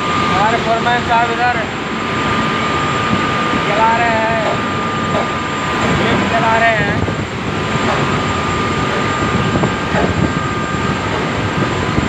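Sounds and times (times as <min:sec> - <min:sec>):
crane hoist machinery whining: 0:00.0 - 0:12.0
wind buffeting microphone: 0:00.0 - 0:12.0.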